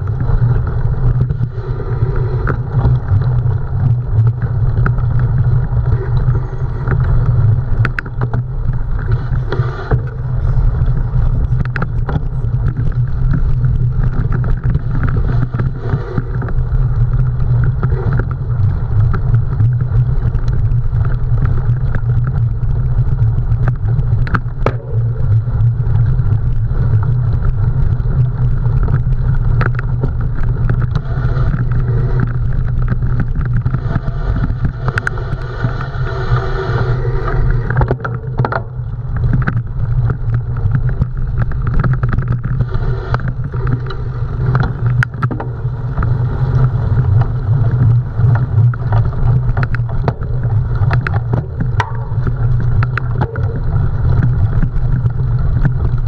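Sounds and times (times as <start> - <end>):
bicycle tyre and drivetrain noise: 0.0 - 56.0
wind buffeting microphone: 0.0 - 56.0.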